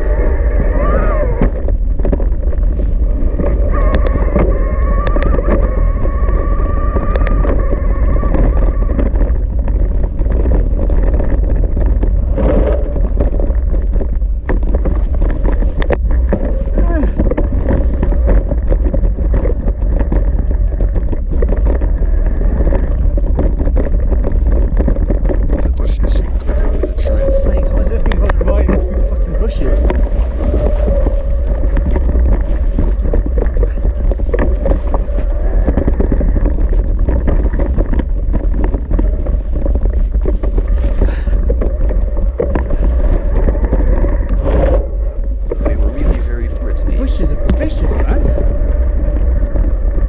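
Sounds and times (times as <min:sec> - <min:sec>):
bike knocking and rattling: 0:00.0 - 0:50.0
steady hum: 0:00.0 - 0:50.0
wind buffeting microphone: 0:00.0 - 0:50.0.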